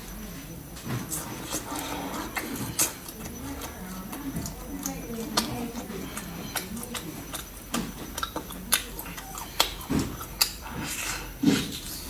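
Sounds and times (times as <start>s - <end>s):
wet chewing: 0.0s - 12.0s
lip smacks and mouth clicks: 0.8s - 12.0s.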